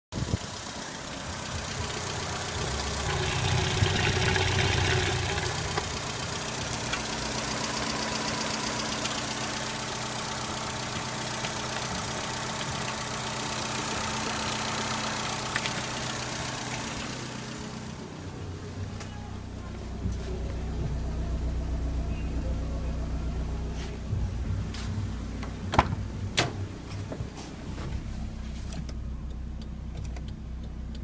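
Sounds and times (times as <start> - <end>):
car engine idling: 0.1 - 31.0.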